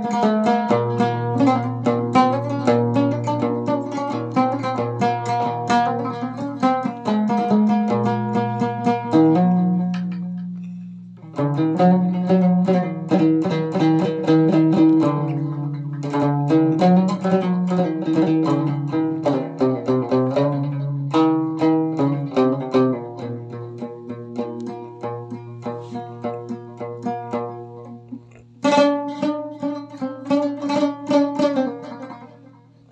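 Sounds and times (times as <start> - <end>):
plucked lute melody: 0.0 - 32.9.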